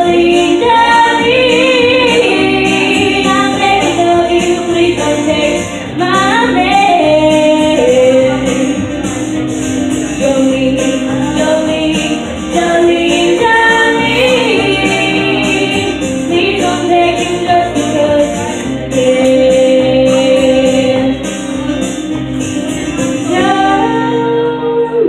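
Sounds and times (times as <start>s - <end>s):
woman singing lead: 0.0s - 9.2s, 10.0s - 21.8s, 23.1s - 25.0s
country band playing: 0.0s - 25.0s
harmony voices: 0.0s - 25.0s.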